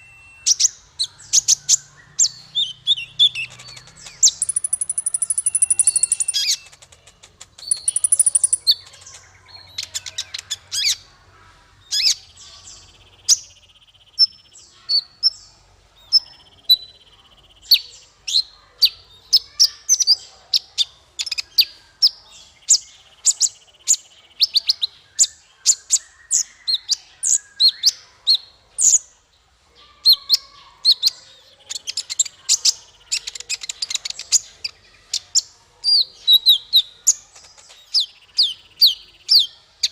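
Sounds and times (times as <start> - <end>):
small songbird chirping and trilling: 0.0 - 11.1, 11.7 - 39.9.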